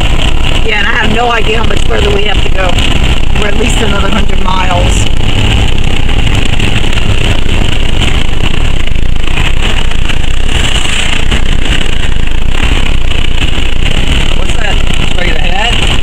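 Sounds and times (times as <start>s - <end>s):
car driving rumble from inside: 0.0s - 16.0s.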